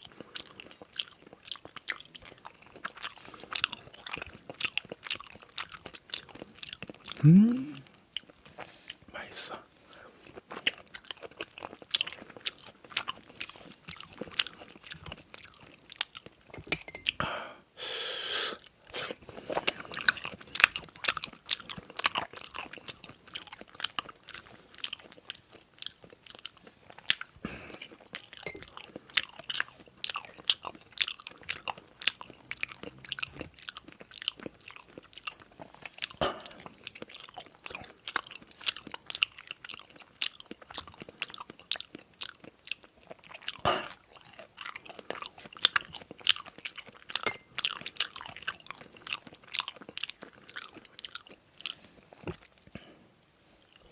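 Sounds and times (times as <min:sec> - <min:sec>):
chewing and crunching food: 0:00.0 - 0:17.2, 0:18.5 - 0:53.9.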